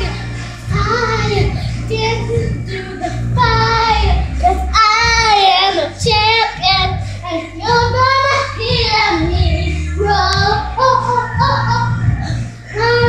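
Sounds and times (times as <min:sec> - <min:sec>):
high singing voice: 0:00.0 - 0:13.0
music with steady bass line: 0:00.0 - 0:13.0.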